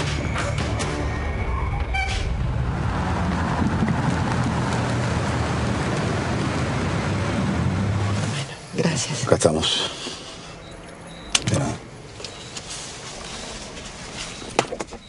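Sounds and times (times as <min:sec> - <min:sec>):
car engine and tyre hum: 0:00.0 - 0:15.0.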